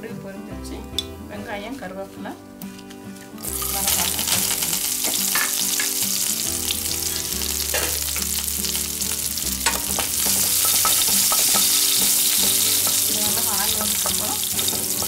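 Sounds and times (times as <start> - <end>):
pan being stirred: 2.6 - 15.0
food sizzling in hot oil: 2.7 - 15.0.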